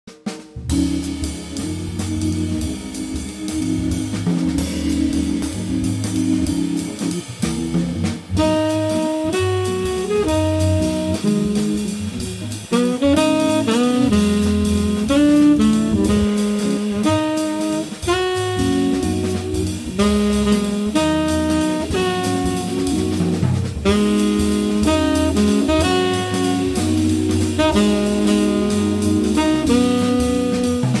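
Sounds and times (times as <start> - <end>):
drum kit with cymbals: 0.1 - 31.0
organ chords and bass line: 0.6 - 31.0
tenor saxophone melody: 0.7 - 31.0.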